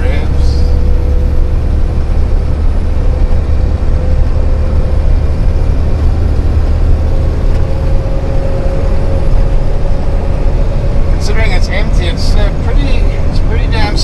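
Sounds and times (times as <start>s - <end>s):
steady whine: 0.0s - 14.0s
truck engine and road drone: 0.0s - 14.0s.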